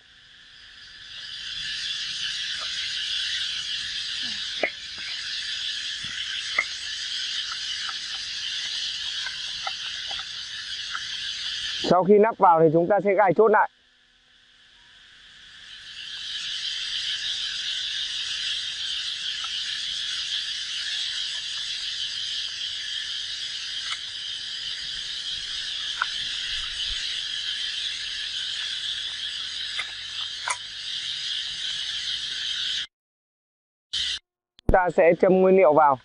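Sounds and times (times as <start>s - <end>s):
high-pitched animal chorus: 0.8s - 13.6s, 15.5s - 32.9s.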